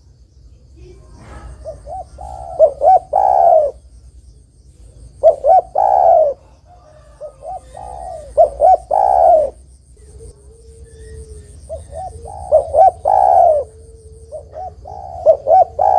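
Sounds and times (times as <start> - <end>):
dove cooing: 1.2 - 3.9, 4.7 - 15.9.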